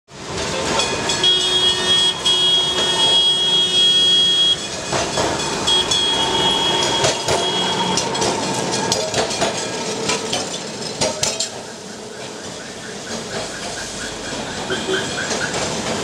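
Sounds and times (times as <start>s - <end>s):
street traffic noise: 0.1s - 16.0s
tram whining: 0.1s - 16.0s.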